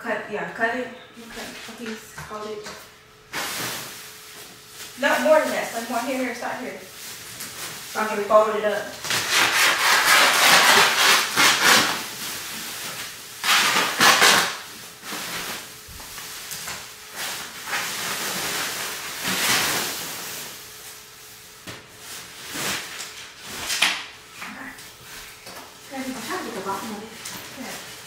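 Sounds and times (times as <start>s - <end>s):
plastic sheet rustling and crinkling: 1.2s - 2.7s, 3.3s - 28.0s.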